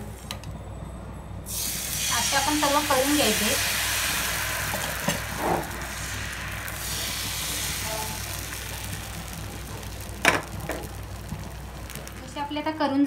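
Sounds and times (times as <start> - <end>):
batter sizzling in frying pan: 1.5 - 12.9.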